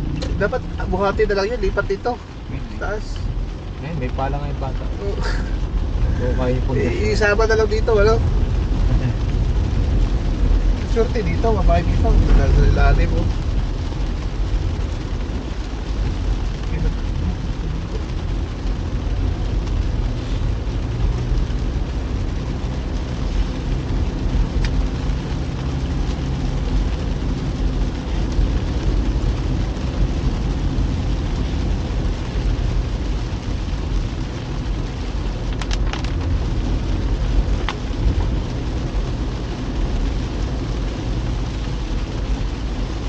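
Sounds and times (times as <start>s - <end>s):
car driving on wet road: 0.0s - 43.0s
rain: 0.0s - 43.0s.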